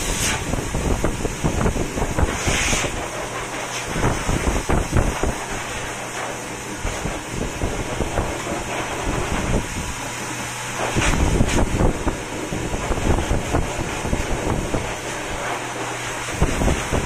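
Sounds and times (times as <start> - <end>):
pet dryer blowing air: 0.0 - 17.0.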